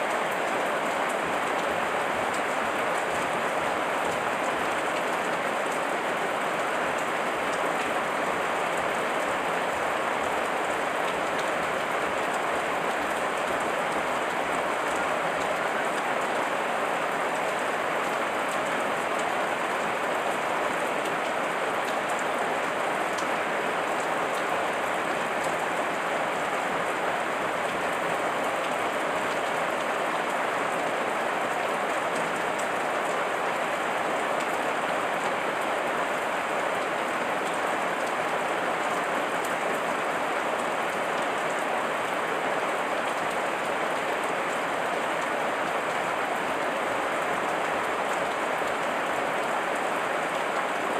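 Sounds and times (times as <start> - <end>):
faint raindrop ticks: 0.0 - 50.9.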